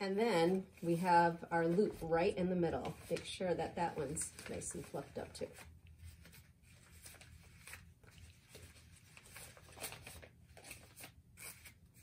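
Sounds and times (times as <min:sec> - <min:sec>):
ribbon rustling and crinkling: 0:00.4 - 0:12.0.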